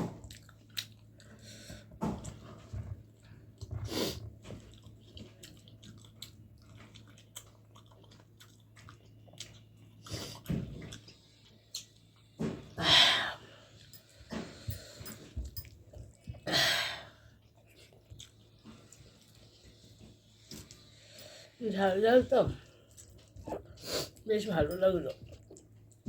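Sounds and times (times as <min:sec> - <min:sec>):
chewing and crunching: 0:00.0 - 0:12.8, 0:13.4 - 0:16.5, 0:17.1 - 0:26.0
faint low hum: 0:00.0 - 0:26.0.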